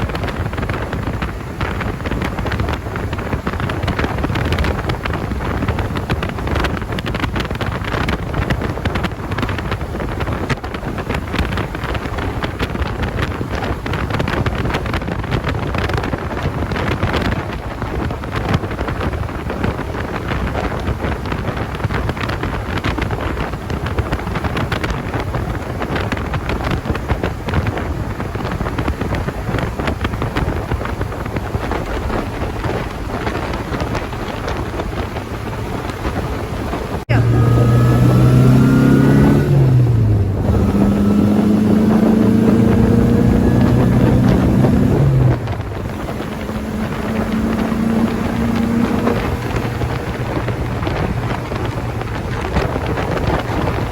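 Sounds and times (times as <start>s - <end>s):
car running: 0.0s - 53.9s
wind buffeting microphone: 0.0s - 53.9s.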